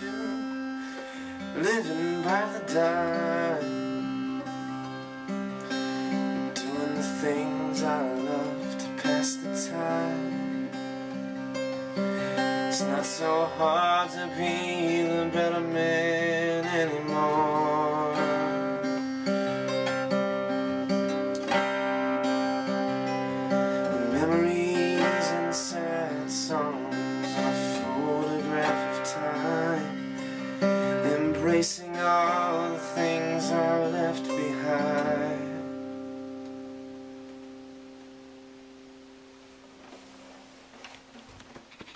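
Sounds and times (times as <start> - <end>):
acoustic guitar chords: 0.0 - 41.9.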